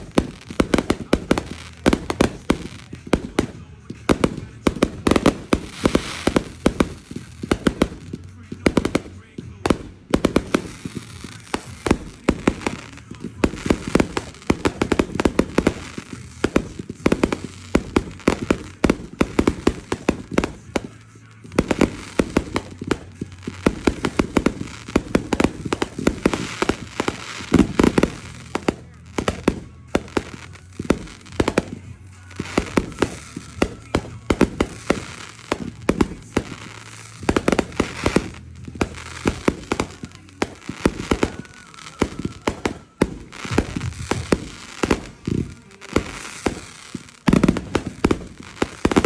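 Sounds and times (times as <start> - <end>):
fireworks bangs: 0.0 - 49.0
fireworks popping and crackling: 0.0 - 49.0.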